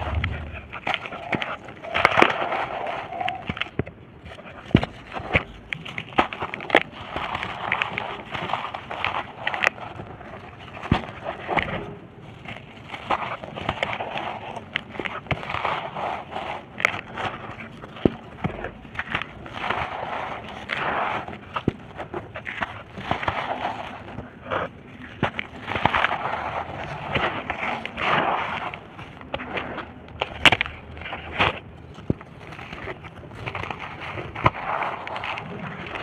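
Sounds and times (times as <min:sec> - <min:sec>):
dry dirt crunching and crumbling: 0:00.0 - 0:36.0.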